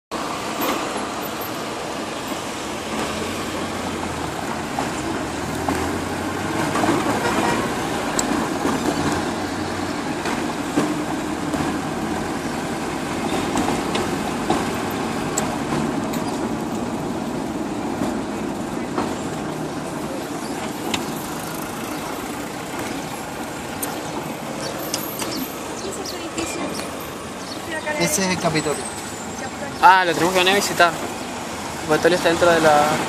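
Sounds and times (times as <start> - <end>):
car engine and road noise: 0.1 - 33.0.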